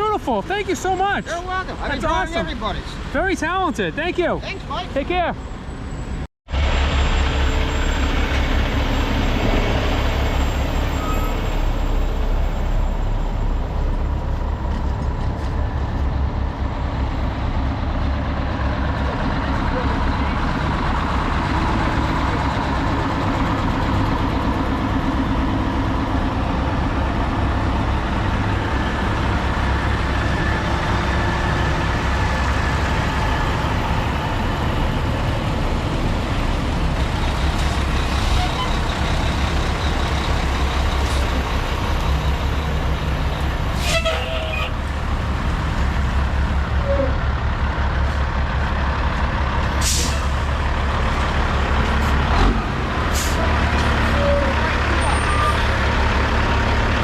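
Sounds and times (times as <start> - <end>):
diesel truck engine rumbling: 0.0 - 57.0.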